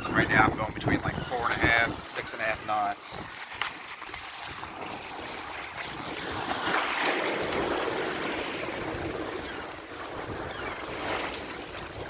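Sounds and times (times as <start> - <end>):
water rushing along a hull: 0.0 - 12.0
wind on the microphone: 0.0 - 12.0.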